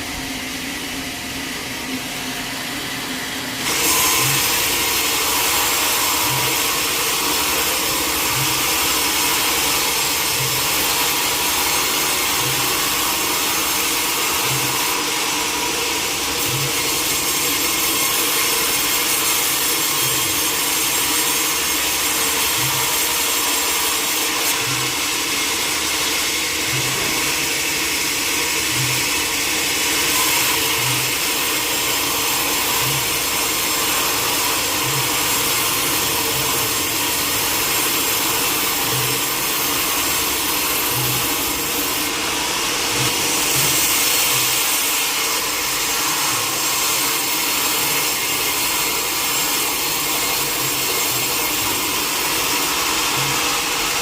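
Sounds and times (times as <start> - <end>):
sawmill saw cutting log: 0.0 - 54.0.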